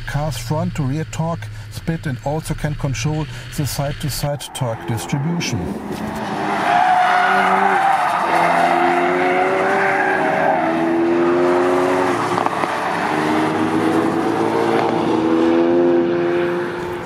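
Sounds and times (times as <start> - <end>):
car engine revving on track: 0.4 - 17.0.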